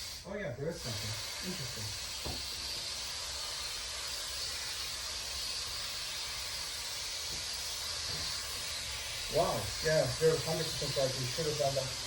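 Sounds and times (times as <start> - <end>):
water spray hissing on glass: 0.0 - 12.0.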